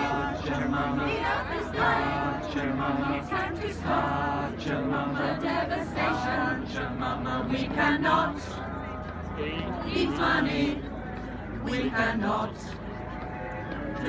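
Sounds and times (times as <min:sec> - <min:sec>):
mixed choir singing unaccompanied: 0:00.0 - 0:14.0.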